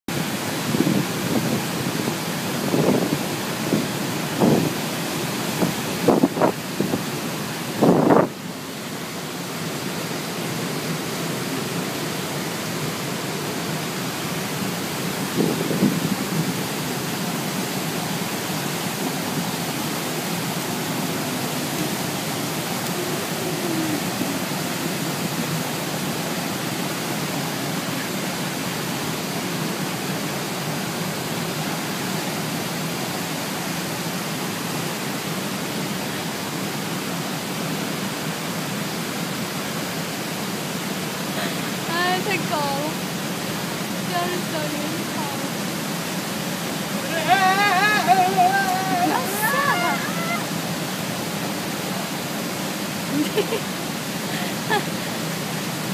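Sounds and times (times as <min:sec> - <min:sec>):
rushing stream water: 0:00.1 - 0:55.9
rustle: 0:00.1 - 0:55.9.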